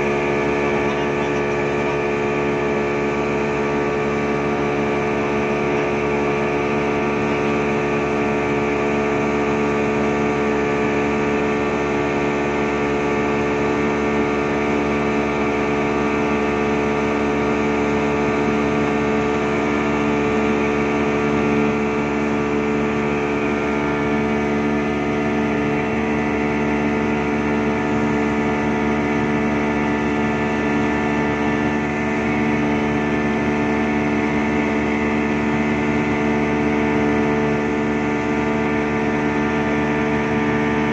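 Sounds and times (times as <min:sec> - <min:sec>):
outboard motor droning with whine: 0:00.0 - 0:40.9.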